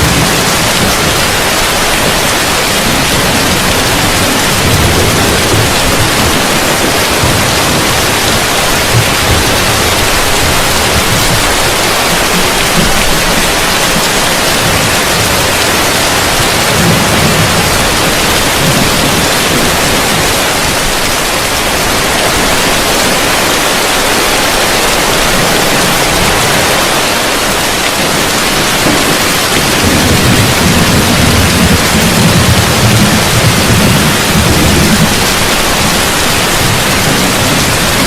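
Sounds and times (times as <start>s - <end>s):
heavy rain on a roof: 0.0s - 38.0s.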